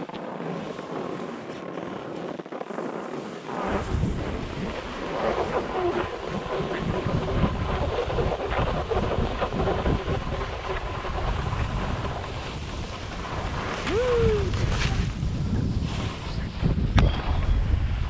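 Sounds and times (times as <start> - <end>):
skis scraping snow: 0.0 - 18.0
wind buffeting microphone: 0.0 - 18.0.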